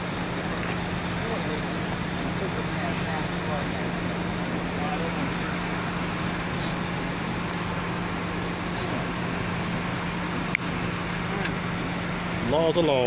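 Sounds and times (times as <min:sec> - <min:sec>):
constant low hum: 0:00.0 - 0:13.0
traffic and engine noise: 0:00.0 - 0:13.0.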